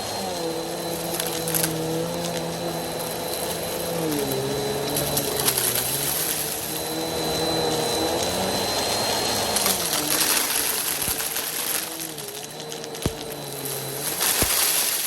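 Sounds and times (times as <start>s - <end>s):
dry food rattling in vacuum: 0.0s - 15.0s
vacuum cleaner running: 0.0s - 15.0s.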